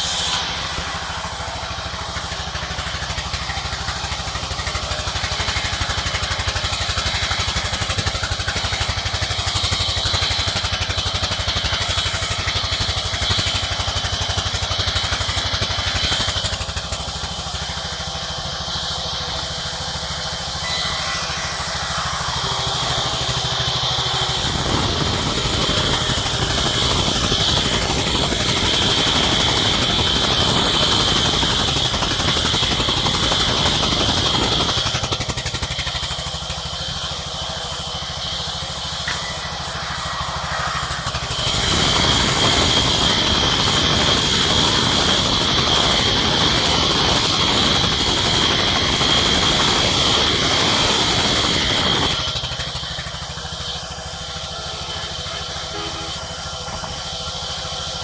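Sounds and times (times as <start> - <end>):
sawmill machinery cutting wood: 0.0 - 58.0.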